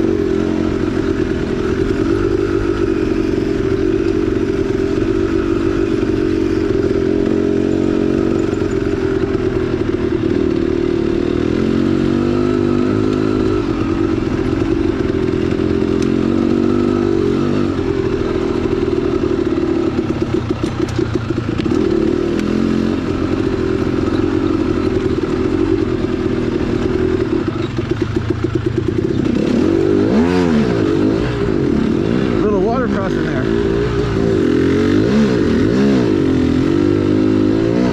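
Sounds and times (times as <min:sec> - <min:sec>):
two-stroke motorcycle engine revving: 0:00.0 - 0:37.9.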